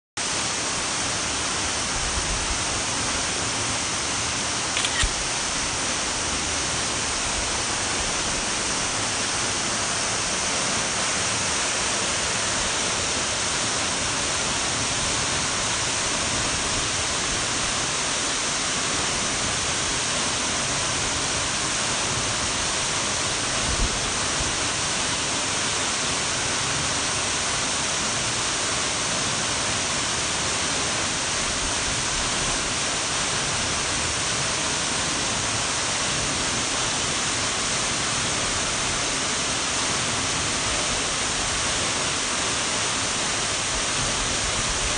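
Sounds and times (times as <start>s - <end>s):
waterfall rushing into pool: 0.2s - 44.9s.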